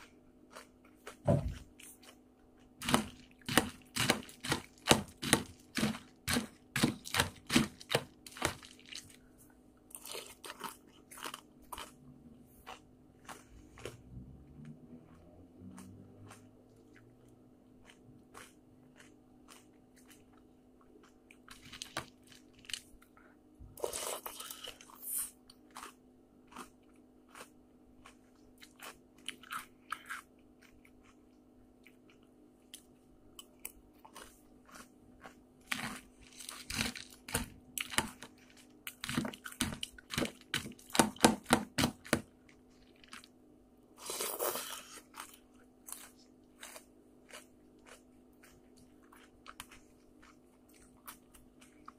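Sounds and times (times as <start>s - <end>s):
faint low hum: 0.0s - 51.9s
person chewing crunchy cereal: 0.0s - 51.9s.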